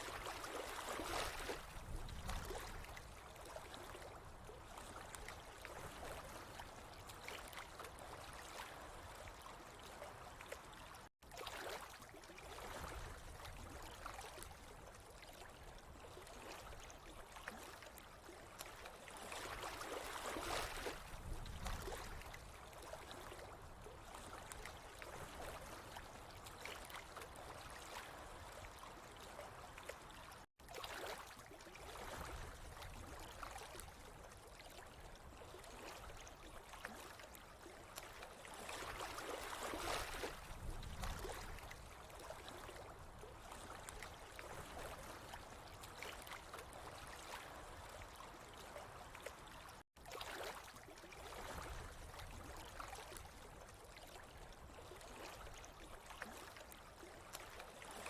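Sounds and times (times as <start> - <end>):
water flowing and trickling: 0.0 - 58.0.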